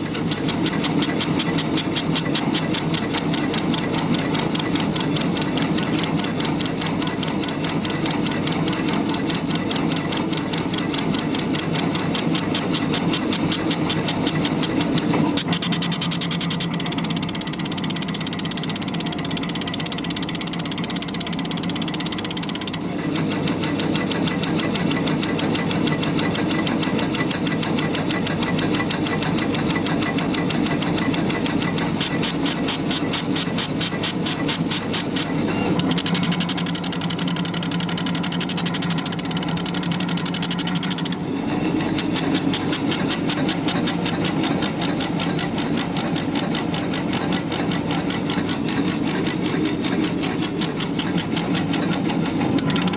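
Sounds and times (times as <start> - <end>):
laser engraver motors: 0.0 - 52.9.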